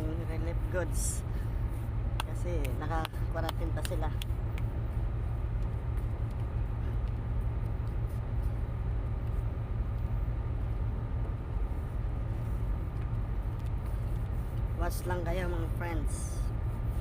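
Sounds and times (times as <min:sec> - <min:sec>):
low boat engine rumble: 0:00.0 - 0:17.0.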